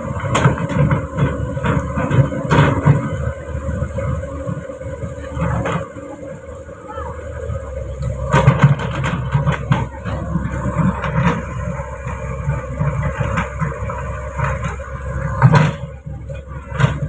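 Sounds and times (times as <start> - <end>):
knocks and rattles: 0.0 - 5.9, 8.0 - 17.0
truck engine running: 0.0 - 17.0.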